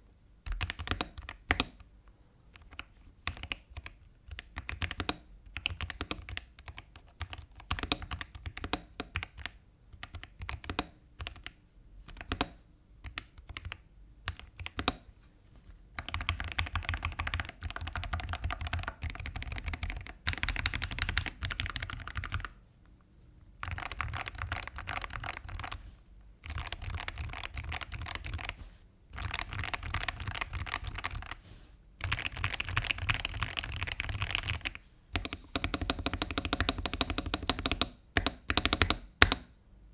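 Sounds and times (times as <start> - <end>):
typing on mechanical keyboard: 0.5 - 1.8, 2.5 - 15.0, 16.0 - 22.6, 23.6 - 25.8, 26.4 - 28.6, 29.2 - 31.4, 32.0 - 39.4.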